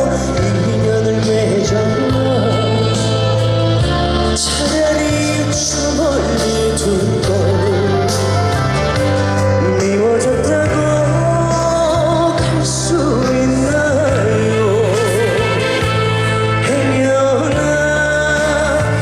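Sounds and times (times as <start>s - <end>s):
instrumental accompaniment: 0.0s - 19.0s
man singing slow song: 0.0s - 19.0s.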